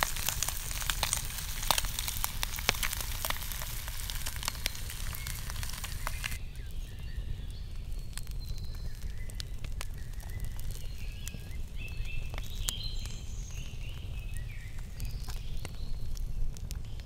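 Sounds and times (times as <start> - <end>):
campfire crackling and popping: 0.0 - 17.0
low wind rumble on microphone: 0.0 - 17.0.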